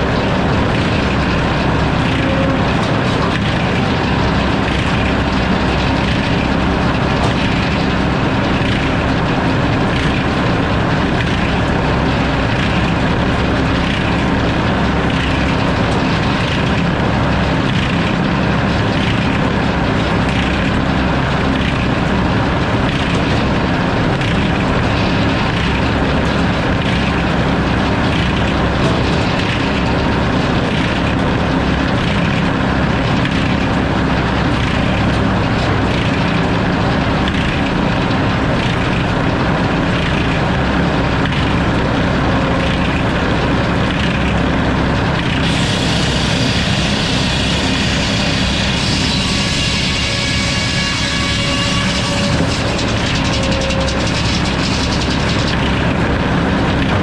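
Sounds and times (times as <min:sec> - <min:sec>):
sawmill machine drone: 0:00.0 - 0:57.0.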